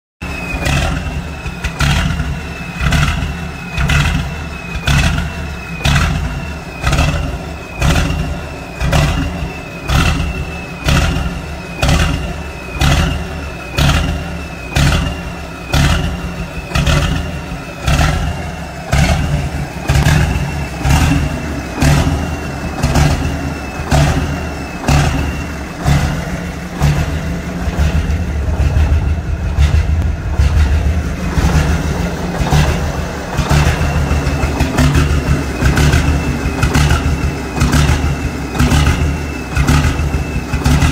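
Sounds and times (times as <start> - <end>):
diesel engine revving: 0.2 - 40.9
high falling whine: 0.2 - 40.9.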